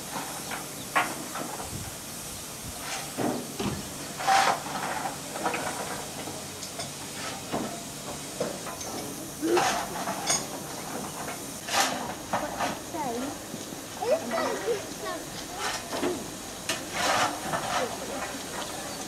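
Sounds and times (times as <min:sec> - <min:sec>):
steam locomotive hissing steam: 0:00.0 - 0:19.0.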